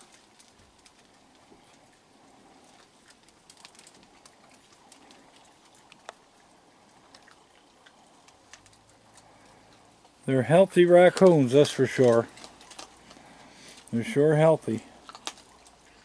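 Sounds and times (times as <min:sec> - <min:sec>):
animals crunching dry kibble: 0:00.0 - 0:16.0.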